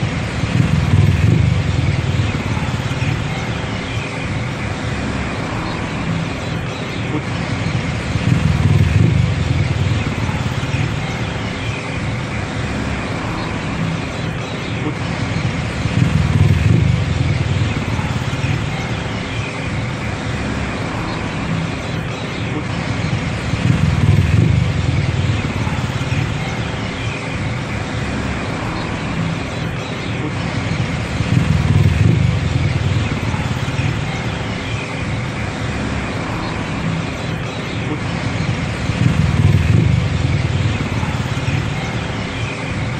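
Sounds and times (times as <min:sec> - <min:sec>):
auto rickshaw engine: 0:00.0 - 0:42.9.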